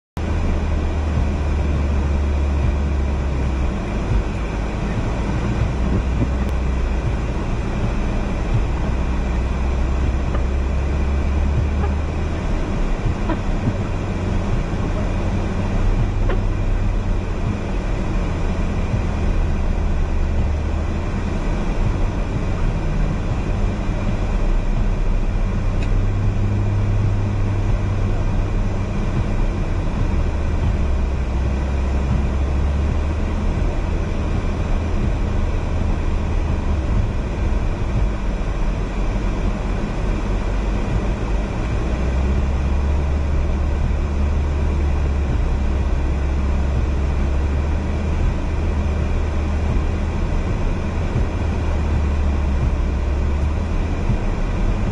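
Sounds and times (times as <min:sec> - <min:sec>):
car engine droning: 0:00.2 - 0:54.9
tyre and road noise: 0:00.2 - 0:54.9.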